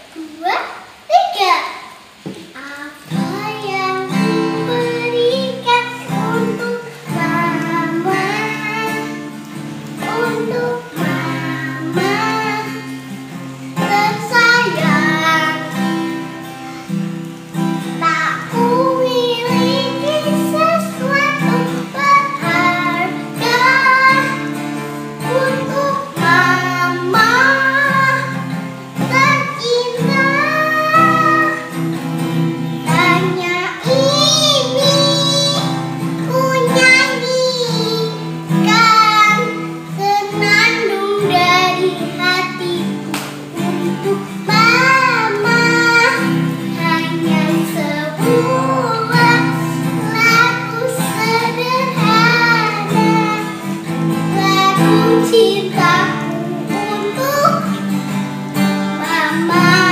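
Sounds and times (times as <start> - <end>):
acoustic guitar: 0.0 - 59.9
girl singing: 0.0 - 59.9.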